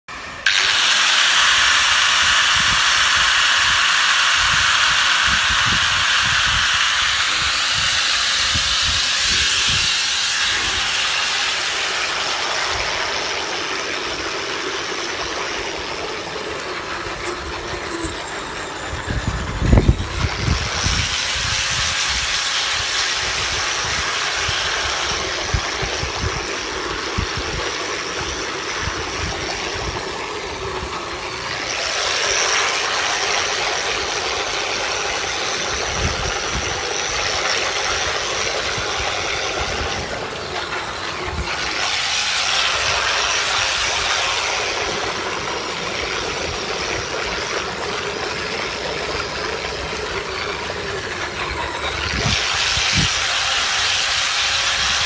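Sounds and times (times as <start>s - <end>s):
angle grinder whining underwater: 0.1s - 55.0s
water churning: 0.1s - 55.0s.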